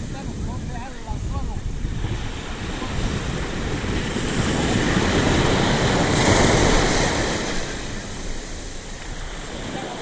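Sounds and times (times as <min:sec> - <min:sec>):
surf breaking on beach: 0:00.0 - 0:10.0
wind gusting on microphone: 0:00.0 - 0:10.0.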